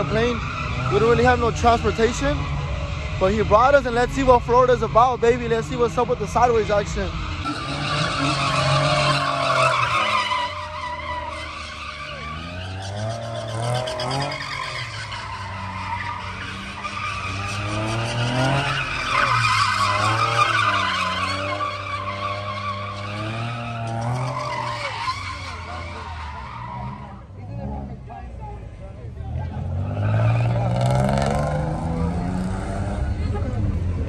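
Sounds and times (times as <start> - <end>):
tyres screeching: 0.0 - 28.0
car engine revving: 0.0 - 34.0.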